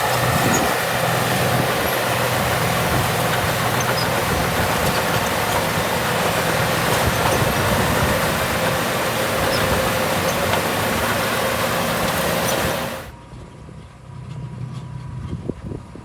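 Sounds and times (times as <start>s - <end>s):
bulldozer diesel engine running: 0.0s - 13.2s.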